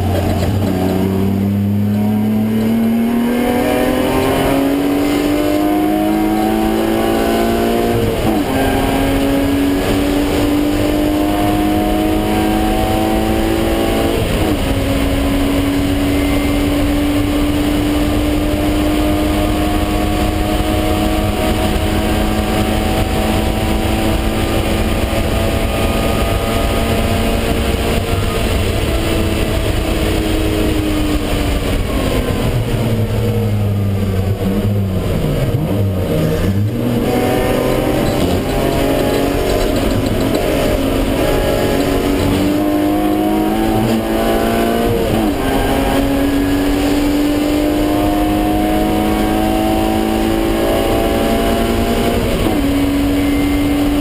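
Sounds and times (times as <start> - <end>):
car engine at high revs: 0.0 - 54.0
wind and road noise: 0.0 - 54.0.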